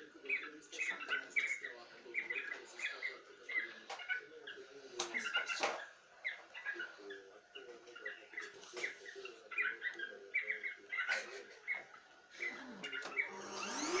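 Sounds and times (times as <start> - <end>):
cockatiels chirping: 0.0 - 14.0.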